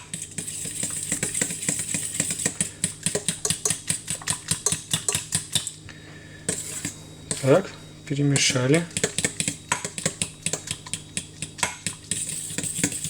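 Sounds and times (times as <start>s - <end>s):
utensil scraping saucepan: 0.0s - 5.7s, 6.4s - 13.0s.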